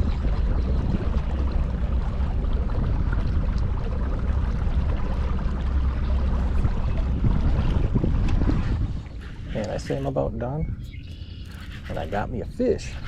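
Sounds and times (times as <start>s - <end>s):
water lapping against boat: 0.0s - 13.0s
wind buffeting microphone: 0.0s - 13.0s.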